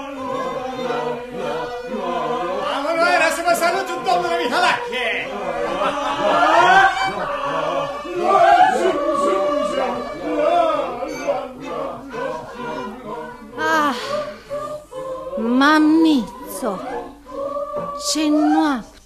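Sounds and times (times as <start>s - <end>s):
voices singing together: 0.0s - 19.0s.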